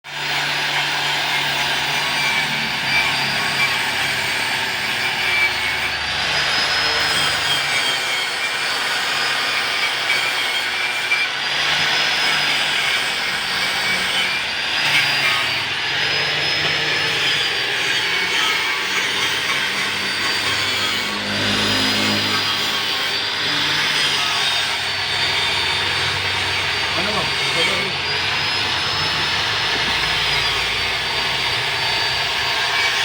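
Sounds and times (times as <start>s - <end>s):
machinery running loudly: 0.1s - 33.0s.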